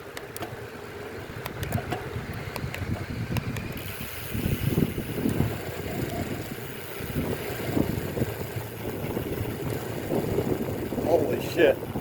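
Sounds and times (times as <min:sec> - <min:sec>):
wind buffeting microphone: 0:01.1 - 0:12.0.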